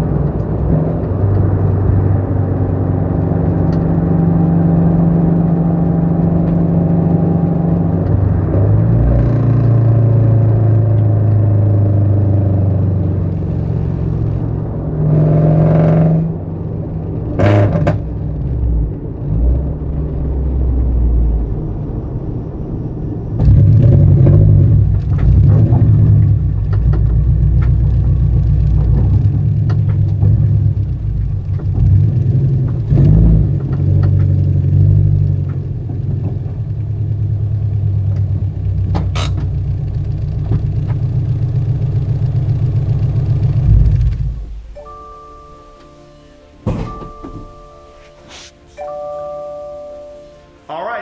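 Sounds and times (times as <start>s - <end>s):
car engine rumbling exhaust: 0.0s - 50.4s.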